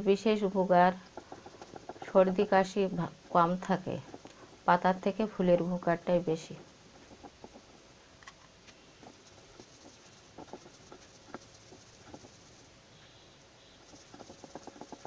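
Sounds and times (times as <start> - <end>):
stone roller crushing seeds: 0.0 - 12.7, 13.7 - 15.0.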